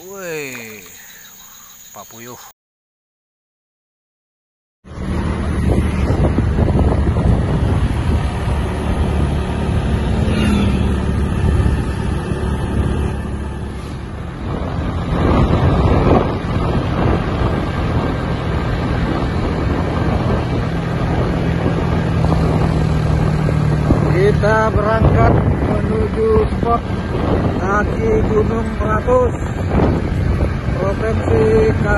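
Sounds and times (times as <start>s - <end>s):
vehicle engine running: 4.8s - 31.9s
wind on microphone: 4.9s - 31.9s.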